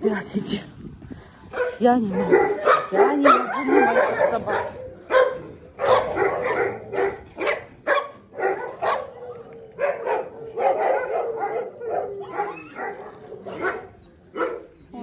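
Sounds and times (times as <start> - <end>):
dogs barking: 1.5 - 15.0.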